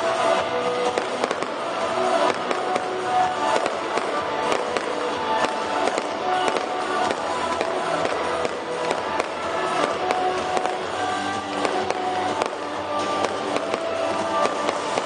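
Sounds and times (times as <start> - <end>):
fireworks cracking and popping: 0.0 - 15.0
music playing: 0.0 - 15.0.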